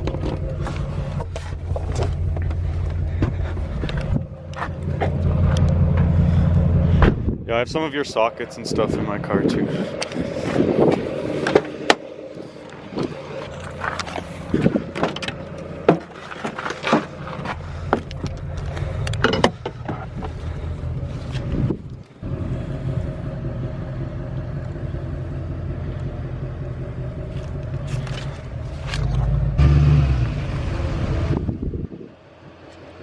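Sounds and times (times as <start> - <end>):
car engine droning: 0.0 - 33.0
low hum: 0.0 - 33.0.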